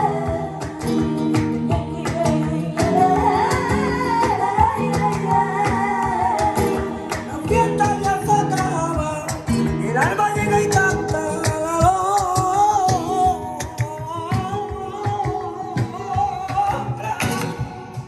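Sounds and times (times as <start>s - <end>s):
flamenco-style guitar music: 0.0s - 18.0s
person singing: 0.0s - 18.0s.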